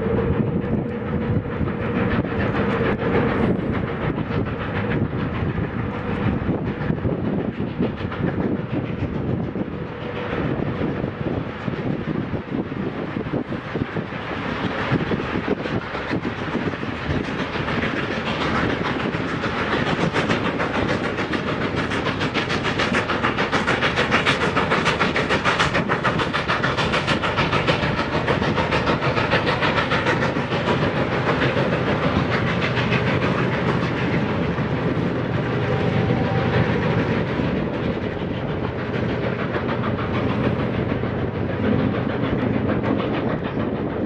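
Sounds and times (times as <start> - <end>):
steam locomotive exhaust beats: 0.0 - 44.0
train wheels clicking on rails: 0.0 - 44.0.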